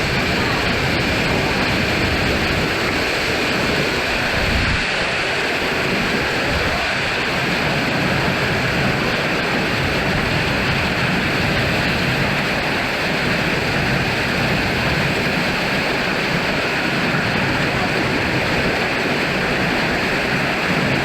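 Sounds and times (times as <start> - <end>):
rain and hail beating down: 0.0 - 21.0
strong wind: 0.0 - 21.0.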